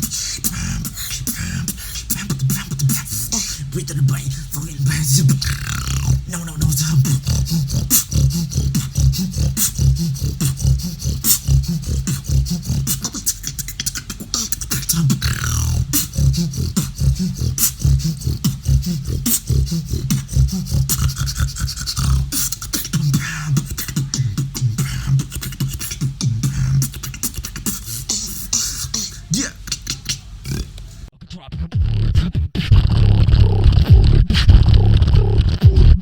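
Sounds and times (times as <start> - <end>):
snore bass: 0.0 - 13.4, 14.3 - 27.1, 31.4 - 36.0
beatboxing: 0.0 - 36.0
gliding vocal effect: 0.0 - 36.0.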